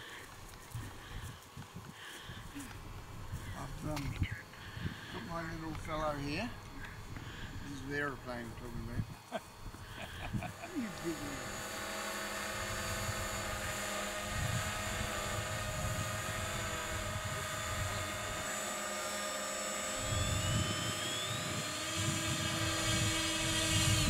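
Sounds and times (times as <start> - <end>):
model aeroplane motor whining: 0.0 - 24.0.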